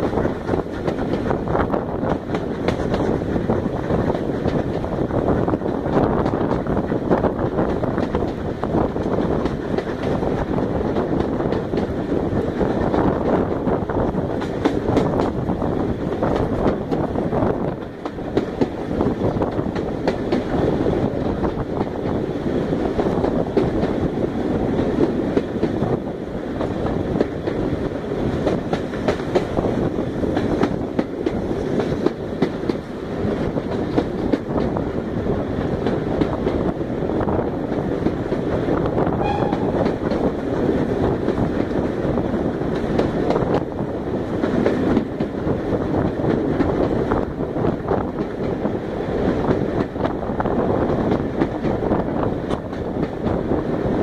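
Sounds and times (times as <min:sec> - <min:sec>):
clickety-clack of train wheels: 0:00.0 - 0:54.0
train wheels rumbling on rails: 0:00.0 - 0:54.0.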